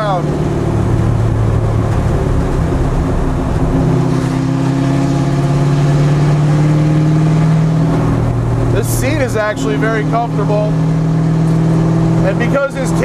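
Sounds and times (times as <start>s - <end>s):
loud race car engine: 0.0s - 13.0s.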